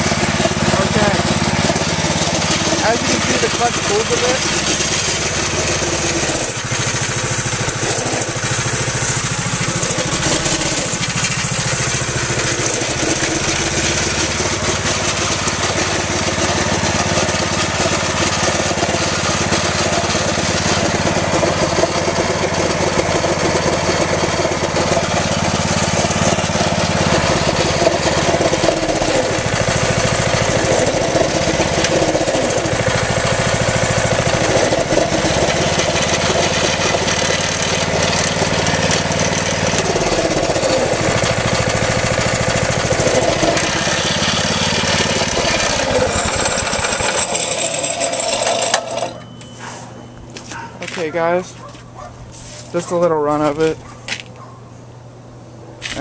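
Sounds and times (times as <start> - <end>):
small kart engine running: 0.0 - 49.5.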